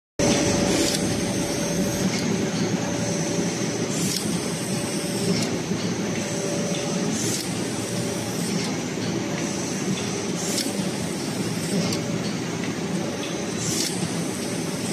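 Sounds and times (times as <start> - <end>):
faint machine whine: 0.2 - 14.9.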